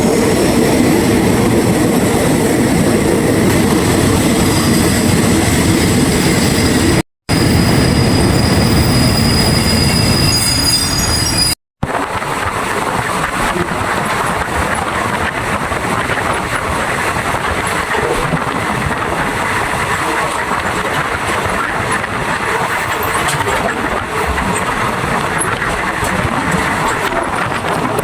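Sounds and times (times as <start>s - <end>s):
passenger train running noise: 0.0s - 28.0s.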